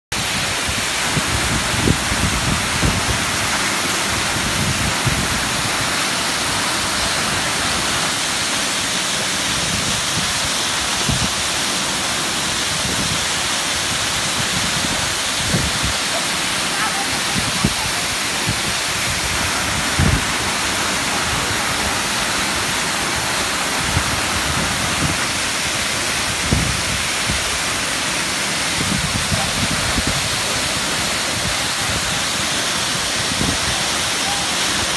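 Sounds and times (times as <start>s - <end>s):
waterfall rushing onto rocks: 0.1s - 34.9s.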